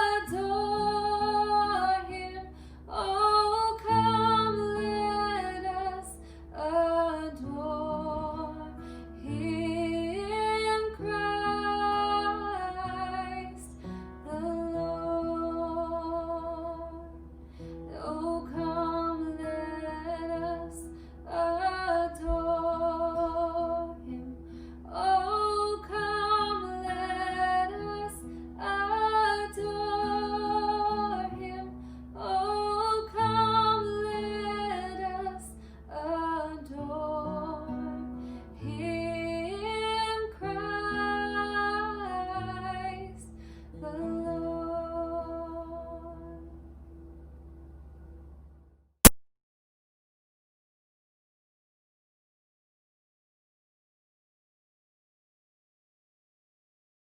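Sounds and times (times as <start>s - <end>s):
woman singing a slow song: 0.0s - 46.6s
guitar accompaniment: 0.0s - 48.1s.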